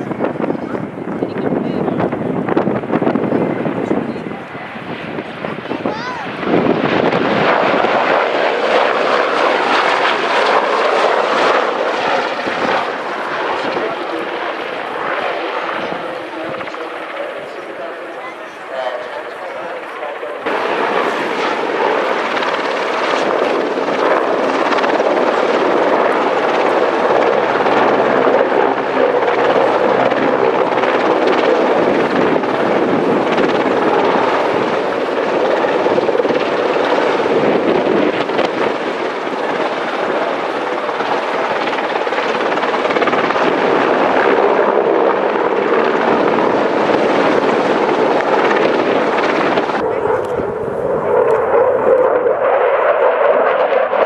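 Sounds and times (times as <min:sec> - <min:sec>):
helicopter flying past: 0:00.0 - 0:54.0.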